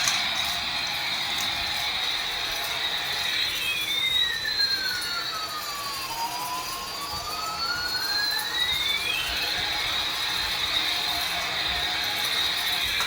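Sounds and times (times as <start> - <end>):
electronic jet engine whine: 0.0 - 13.0
sliding whistle: 0.0 - 13.0.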